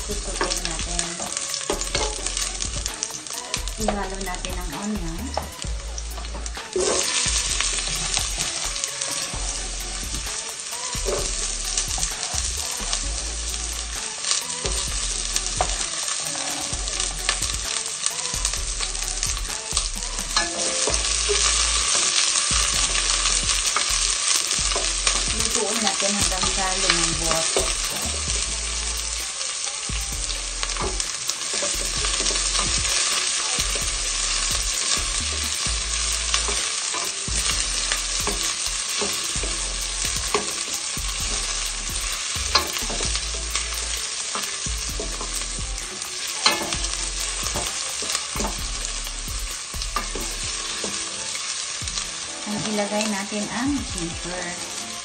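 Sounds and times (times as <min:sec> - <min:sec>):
onion and garlic sizzling in oil: 0:00.0 - 0:55.0.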